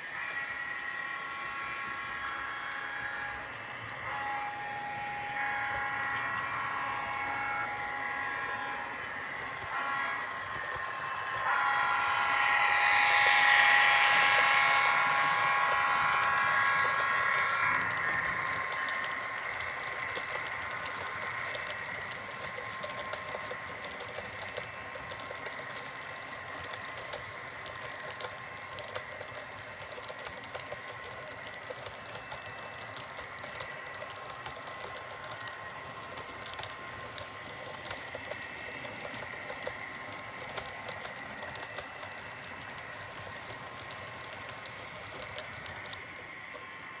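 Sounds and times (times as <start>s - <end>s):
model train clicking on track: 0.0s - 47.0s
model train motor whine: 0.0s - 47.0s.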